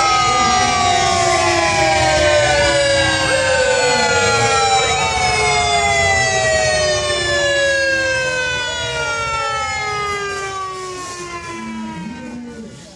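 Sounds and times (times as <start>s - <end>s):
siren wailing: 0.0s - 12.9s
siren whoops: 0.0s - 12.9s.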